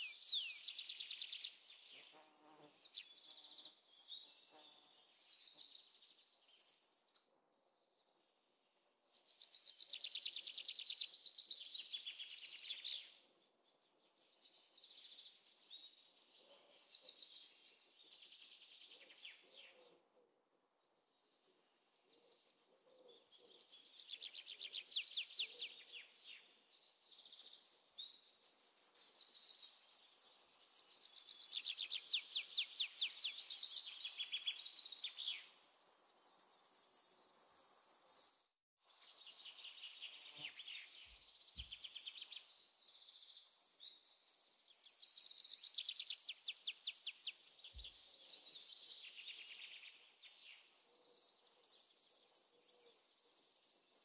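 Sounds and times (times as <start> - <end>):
songbirds chirping and trilling: 0.0 - 7.2, 7.8 - 54.0.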